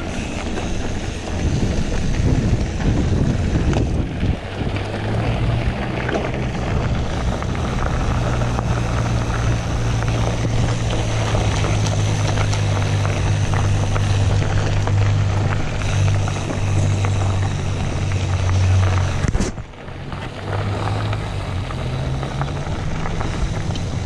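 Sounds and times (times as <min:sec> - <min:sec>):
bike tyres rolling on dirt: 0:00.0 - 0:24.0
steady low hum: 0:00.0 - 0:24.0
wind buffeting microphone: 0:00.0 - 0:24.0.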